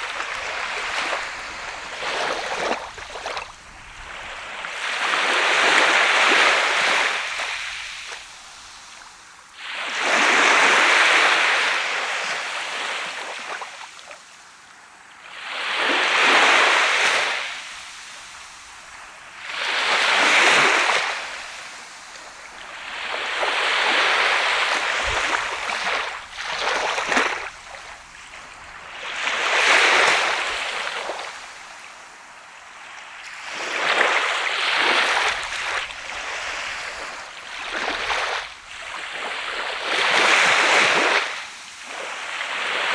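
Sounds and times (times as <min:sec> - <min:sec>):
small waves breaking on a beach: 0:00.0 - 0:42.9.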